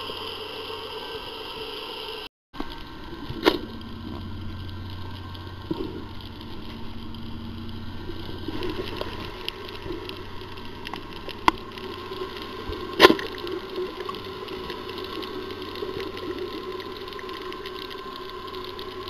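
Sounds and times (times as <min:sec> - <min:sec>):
scattered underwater clicks: 0:02.6 - 0:19.0.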